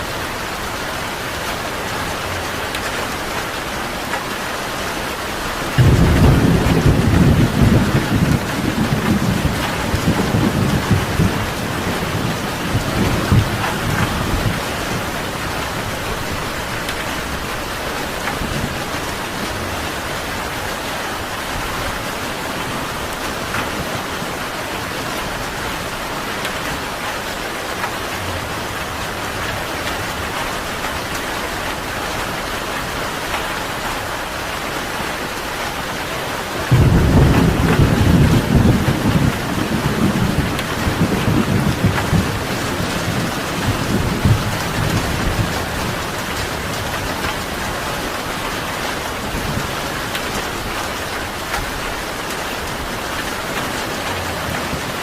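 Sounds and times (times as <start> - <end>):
heavy rain: 0.0 - 55.0
thunder rumbling: 5.5 - 32.2, 35.9 - 55.0.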